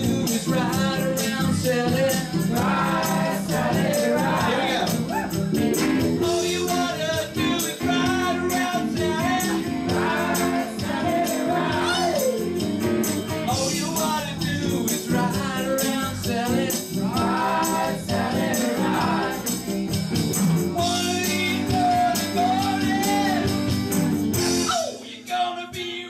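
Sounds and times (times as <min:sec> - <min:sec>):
electric guitar: 0:00.0 - 0:25.0
electronic drum kit beat: 0:00.0 - 0:25.1.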